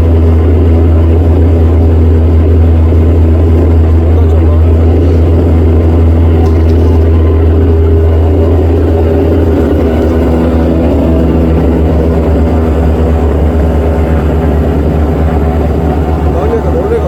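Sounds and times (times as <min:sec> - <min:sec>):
spraying machine engine drone: 0:00.0 - 0:17.0.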